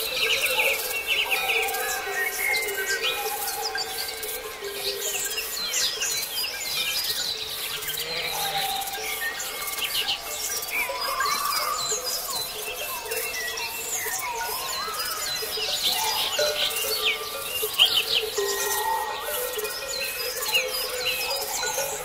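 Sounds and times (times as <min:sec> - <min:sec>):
songbirds chirping and singing: 0:00.0 - 0:22.0.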